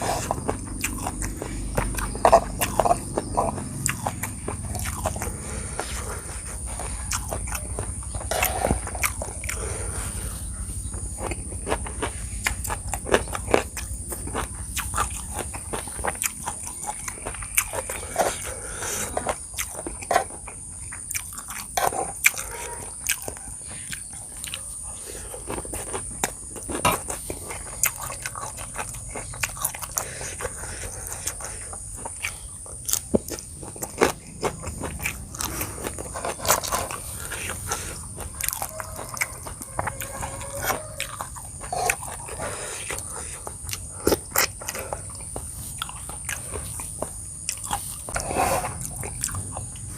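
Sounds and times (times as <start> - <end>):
person crunching and chewing food: 0.0 - 49.9.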